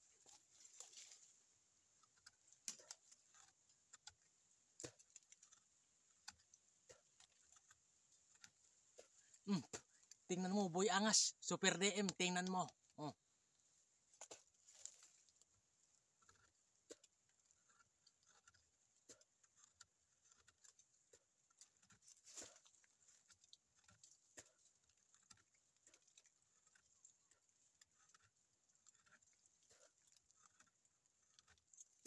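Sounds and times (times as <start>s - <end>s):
teeth scraping bark: 1.9s - 13.2s, 14.1s - 32.0s.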